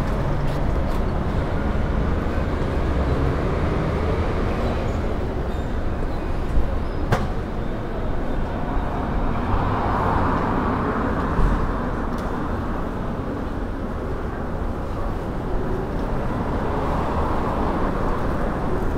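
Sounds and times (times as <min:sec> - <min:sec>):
low rumble of traffic: 0:00.0 - 0:18.9.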